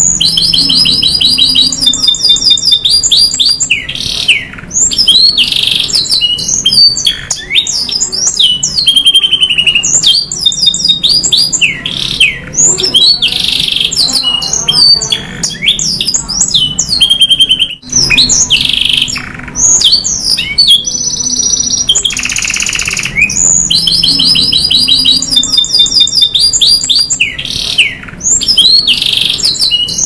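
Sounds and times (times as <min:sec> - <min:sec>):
canary singing: 0:00.0 - 0:30.0.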